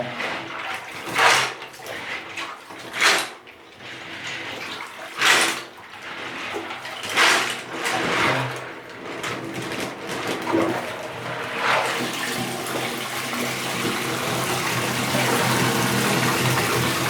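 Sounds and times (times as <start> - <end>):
water with plastic bricks sloshing: 0.0 - 17.0.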